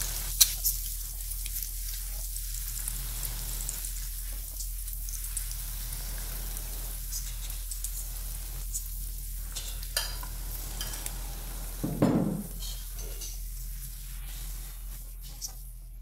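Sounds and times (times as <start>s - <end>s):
oil sizzling and crackling: 0.0s - 16.0s.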